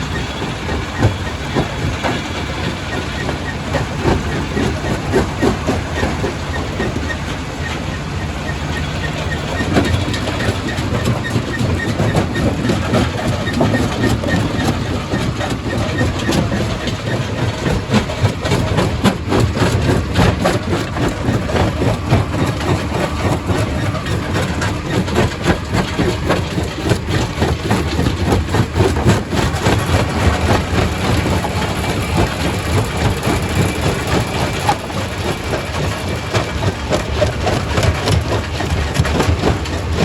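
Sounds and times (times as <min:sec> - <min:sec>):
rock crusher droning: 0:00.0 - 0:40.0.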